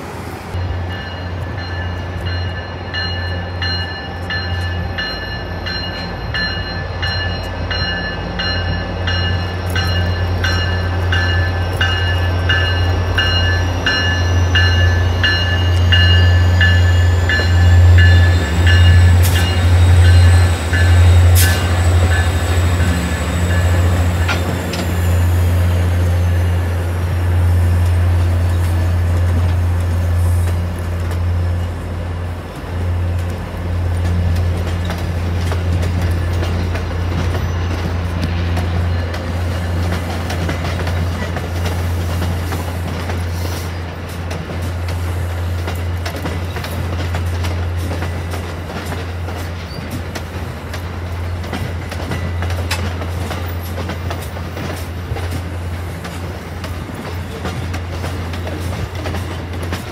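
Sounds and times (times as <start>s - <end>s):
high train whine: 0.0s - 59.9s
locomotive bell ringing: 0.5s - 30.2s, 30.9s - 42.5s, 45.2s - 55.2s.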